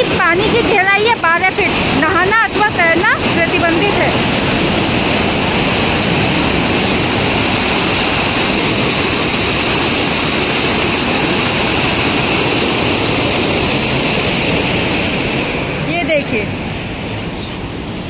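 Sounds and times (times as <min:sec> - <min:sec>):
water rushing through sluice: 0:00.0 - 0:18.0.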